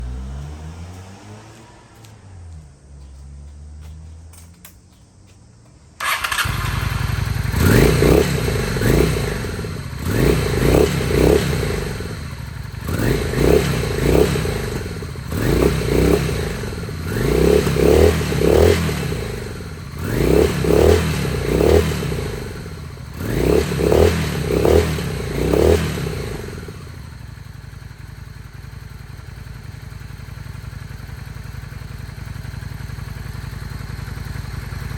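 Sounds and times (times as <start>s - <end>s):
motorcycle engine revving: 0.0s - 5.3s, 6.0s - 34.9s.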